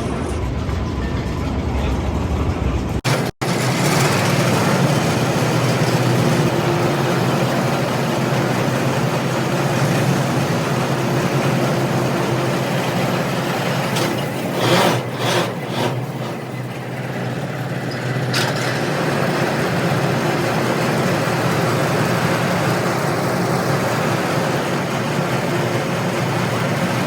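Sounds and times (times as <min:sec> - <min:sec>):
drilling rig running: 0:00.0 - 0:27.0.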